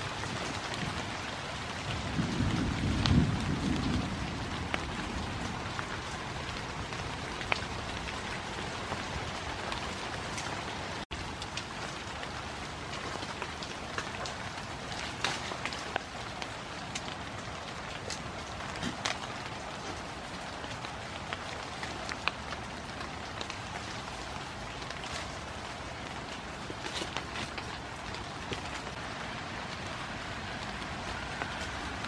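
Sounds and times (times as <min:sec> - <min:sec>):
rain pattering on leaves: 0:00.0 - 0:32.0.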